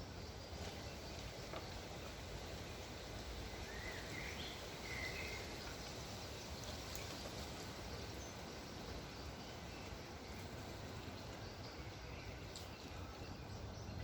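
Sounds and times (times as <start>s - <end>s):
wind blowing through trees: 0.0s - 14.0s.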